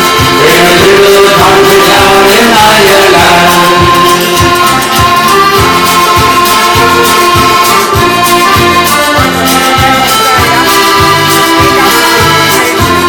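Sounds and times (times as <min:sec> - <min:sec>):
accordion melody: 0:00.0 - 0:13.0
bass beat: 0:00.0 - 0:13.0.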